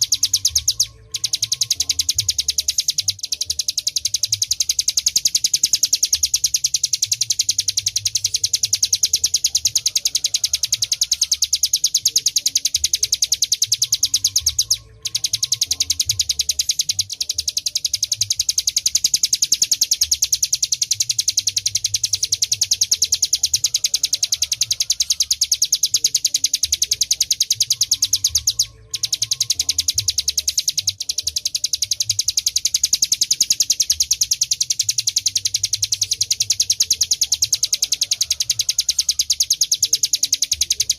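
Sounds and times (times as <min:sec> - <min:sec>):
bird singing fast high trill: 0:00.0 - 0:40.9.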